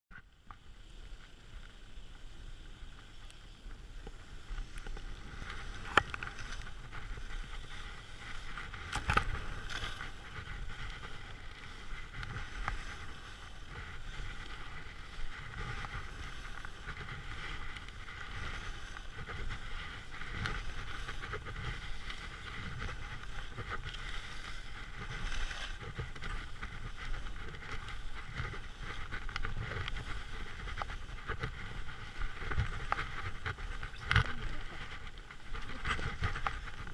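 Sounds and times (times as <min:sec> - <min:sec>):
wind rumbling on microphone: 0:00.1 - 0:36.9
skis scraping over snow: 0:00.4 - 0:36.9.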